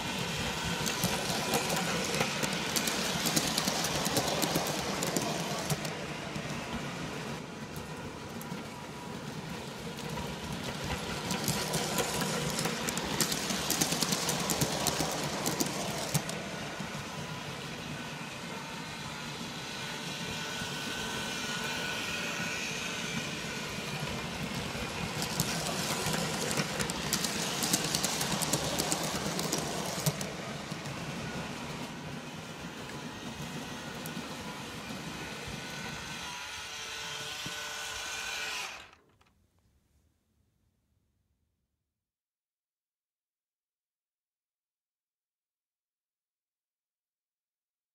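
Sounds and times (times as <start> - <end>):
rapid clicking of train wheels: 0.0 - 39.0
model trains whirring: 0.0 - 39.3.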